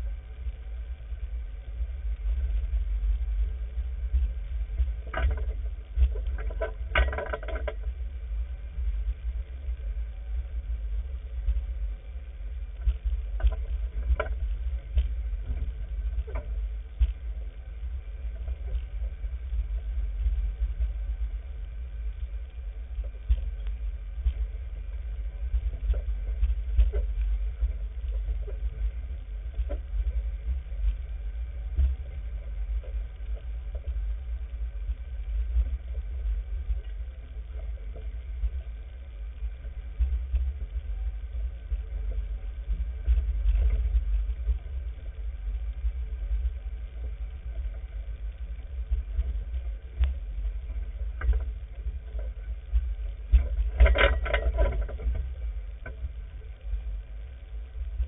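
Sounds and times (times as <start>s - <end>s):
off-road vehicle engine rumble: 0.0s - 58.0s.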